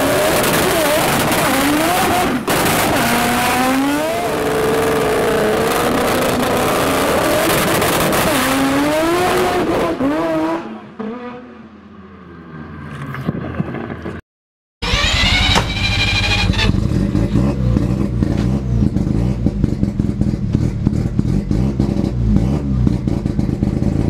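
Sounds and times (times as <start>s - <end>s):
racing engine at full throttle: 0.0s - 13.1s, 15.0s - 24.0s.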